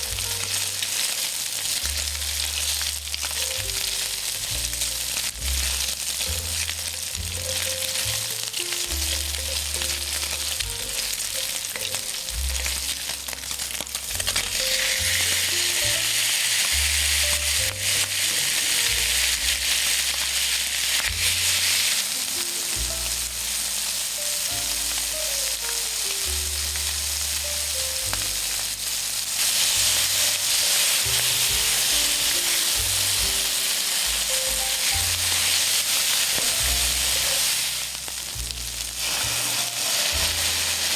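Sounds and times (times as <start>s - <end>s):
food sizzling in oil: 0.0s - 40.9s
soft background music: 0.0s - 40.9s.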